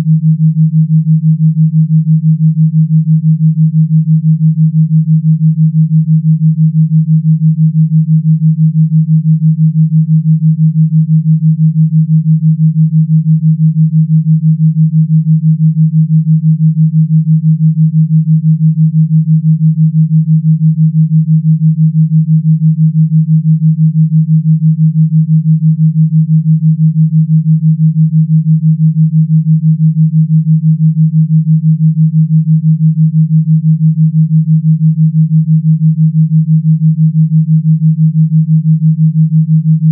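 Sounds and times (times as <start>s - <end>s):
low pulsing electronic tone: 0.0s - 39.9s.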